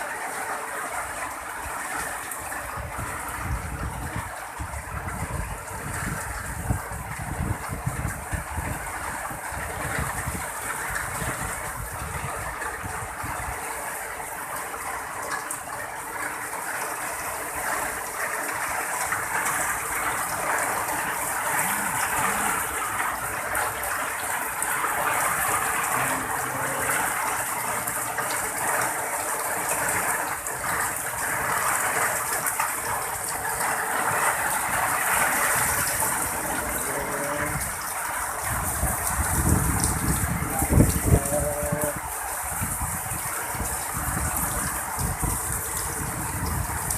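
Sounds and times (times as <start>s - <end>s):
heavy rain pouring: 0.0s - 46.9s
strong wind: 1.6s - 14.0s, 18.6s - 46.9s.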